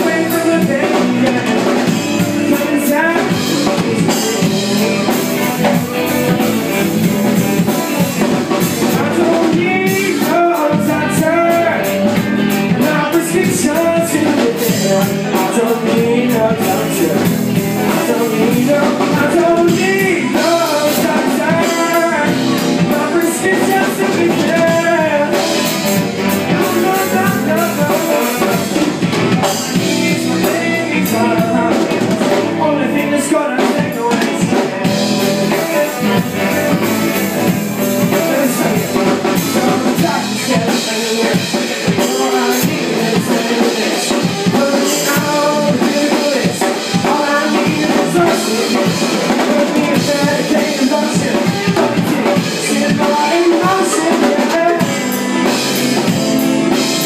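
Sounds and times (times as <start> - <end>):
drum kit: 0.0 - 57.0
electric guitars: 0.0 - 57.0
keyboard: 0.0 - 57.0
person singing: 0.0 - 57.0.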